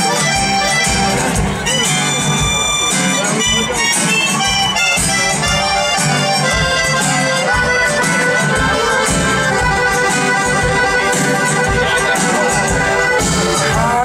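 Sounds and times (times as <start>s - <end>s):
acoustic guitar strumming: 0.0s - 14.0s
piano accordion: 0.0s - 14.0s.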